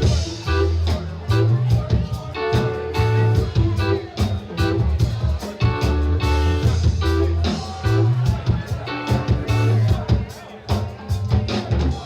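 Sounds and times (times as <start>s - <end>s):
low bass line: 0.0s - 10.3s
band music led by guitar: 0.0s - 12.0s.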